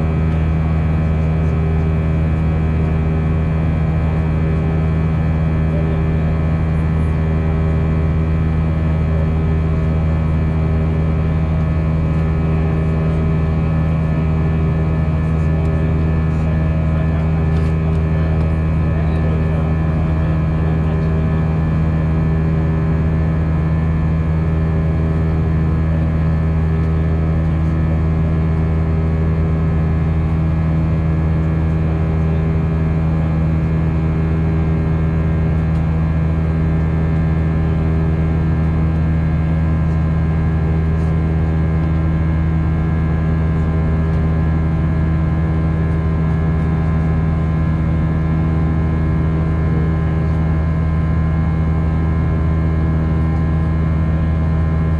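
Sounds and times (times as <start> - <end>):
airliner cabin drone: 0.0 - 54.9.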